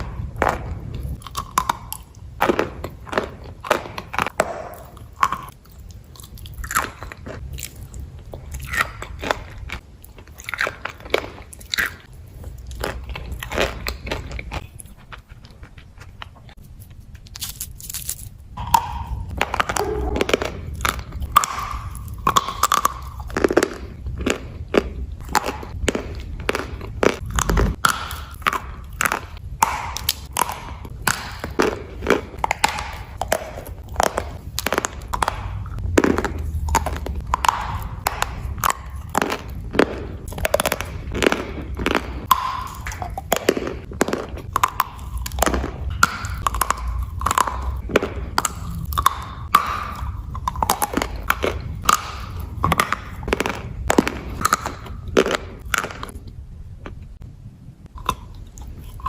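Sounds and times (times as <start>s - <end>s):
chalk being chewed crunching: 0.0s - 56.4s, 57.9s - 59.0s.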